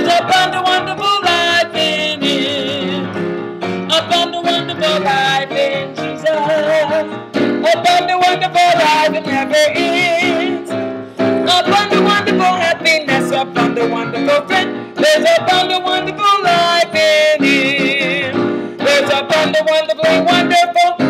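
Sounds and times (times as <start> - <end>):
electronic keyboard playing gospel: 0.0 - 21.0.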